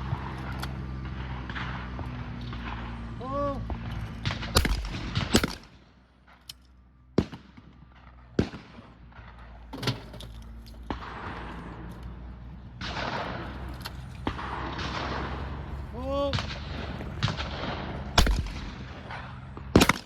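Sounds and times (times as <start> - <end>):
shotgun shots: 0.0 - 5.9, 7.2 - 9.8, 10.8 - 20.0.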